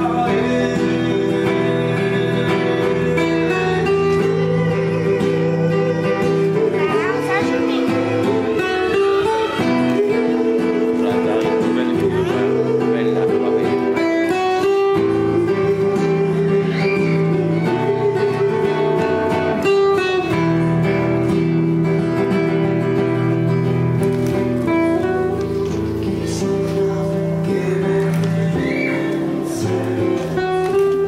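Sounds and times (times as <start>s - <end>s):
classical guitar playing: 0.0s - 31.0s.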